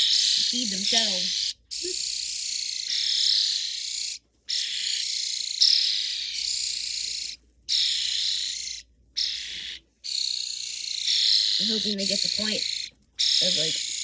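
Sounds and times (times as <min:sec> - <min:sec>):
young starlings harsh begging calls: 0:00.0 - 0:14.0.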